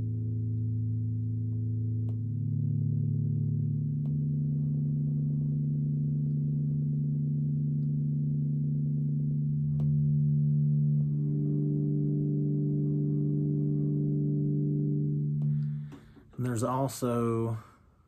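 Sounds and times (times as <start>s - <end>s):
guitar strings droning: 0.0s - 17.8s.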